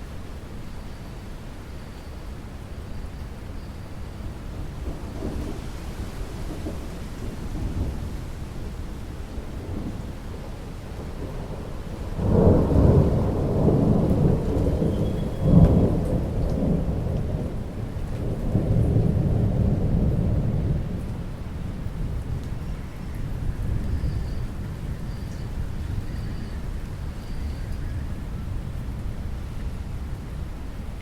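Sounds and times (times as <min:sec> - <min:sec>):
steady rainfall: 0:00.0 - 0:31.0
rumbling thunder: 0:04.5 - 0:29.4.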